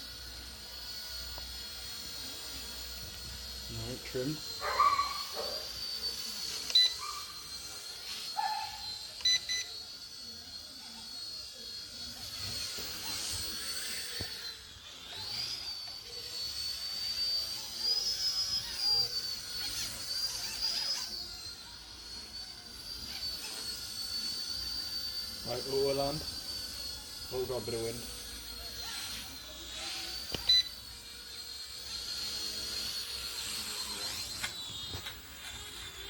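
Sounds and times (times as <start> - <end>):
toy helicopter motor whine: 0.0 - 36.0.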